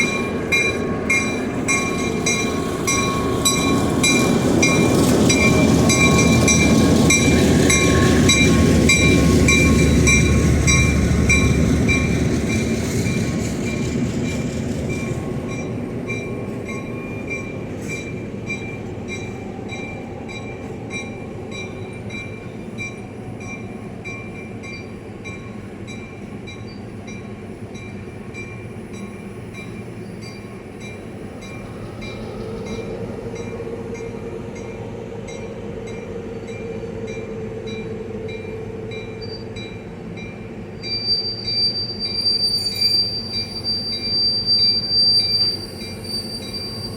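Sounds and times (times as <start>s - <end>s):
rail car rumbling on track: 0.0s - 46.9s.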